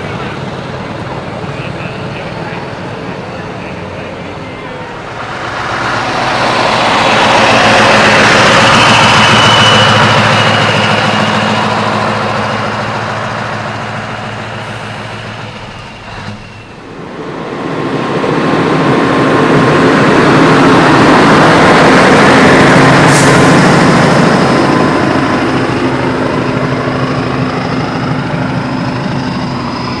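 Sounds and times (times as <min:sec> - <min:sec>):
diesel trucks driving past: 0:00.0 - 0:30.0.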